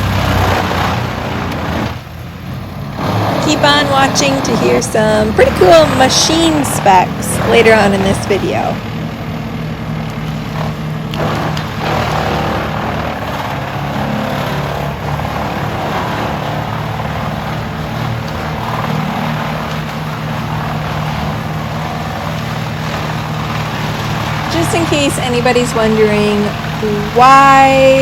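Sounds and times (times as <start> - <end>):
wood chipper running: 0.0 - 28.0.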